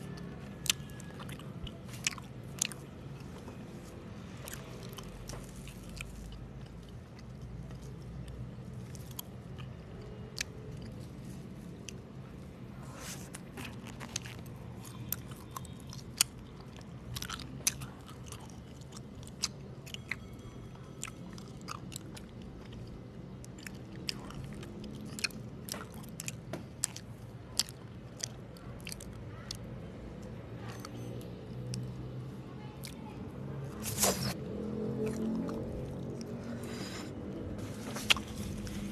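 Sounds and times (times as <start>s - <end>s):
person chewing: 0.0s - 20.3s, 21.0s - 32.2s, 33.7s - 38.9s.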